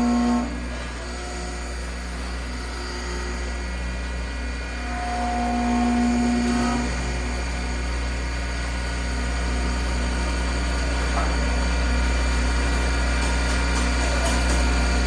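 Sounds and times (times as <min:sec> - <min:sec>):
constant whining tones: 0:00.0 - 0:15.0
wood lathe motor hum: 0:00.0 - 0:15.0.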